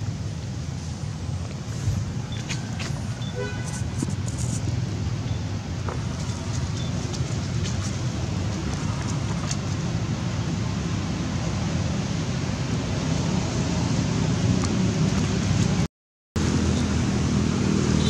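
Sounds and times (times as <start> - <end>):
low outdoor rumble: 0.0 - 17.6.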